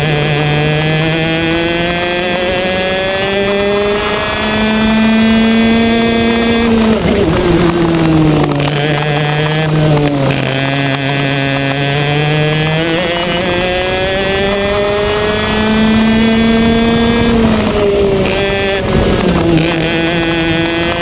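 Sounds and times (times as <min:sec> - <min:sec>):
racing kart engine revving: 0:00.0 - 0:21.0.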